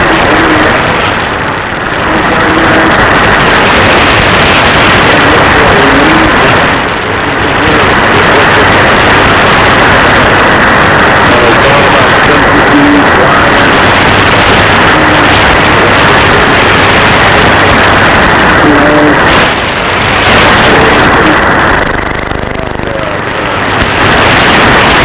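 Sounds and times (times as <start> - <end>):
impulse interference: 0.0 - 25.0
radio static: 0.0 - 25.0.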